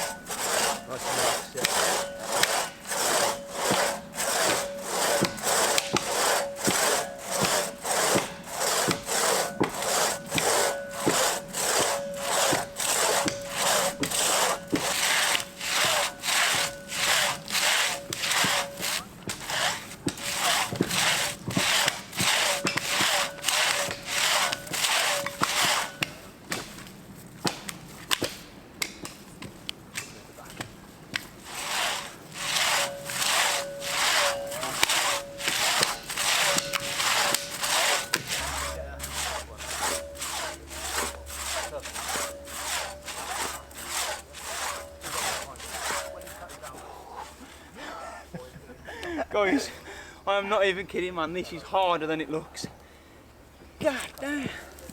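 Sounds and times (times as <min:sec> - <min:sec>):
hand saw cutting wood: 0:00.0 - 0:29.2, 0:30.0 - 0:47.5.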